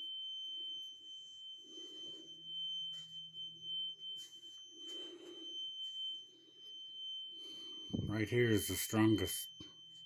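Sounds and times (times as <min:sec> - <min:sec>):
high-pitched alarm tone: 0:00.9 - 0:10.0.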